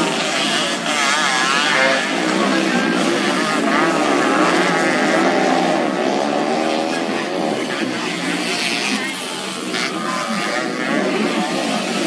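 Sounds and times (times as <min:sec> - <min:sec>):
motorcycle engines revving past: 0:00.0 - 0:12.0.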